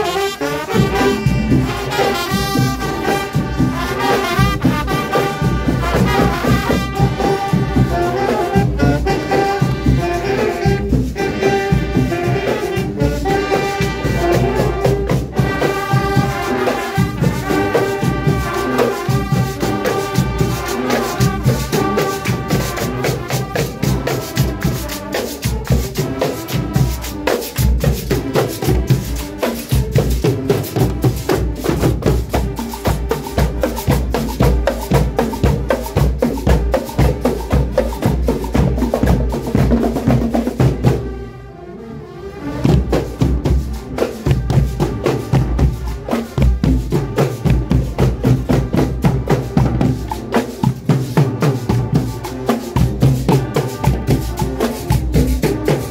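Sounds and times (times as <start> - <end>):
marching band playing: 0.0 - 55.9.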